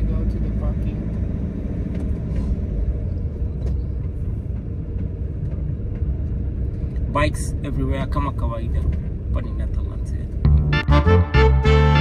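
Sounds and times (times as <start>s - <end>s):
van engine and tyres rumbling: 0.0s - 12.0s.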